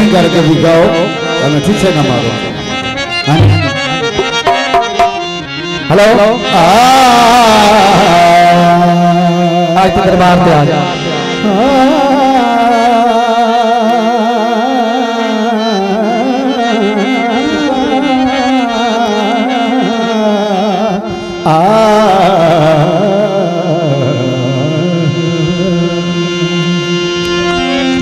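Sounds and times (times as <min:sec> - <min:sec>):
instrumental accompaniment: 0:00.0 - 0:28.0
man singing into a microphone: 0:00.0 - 0:28.0.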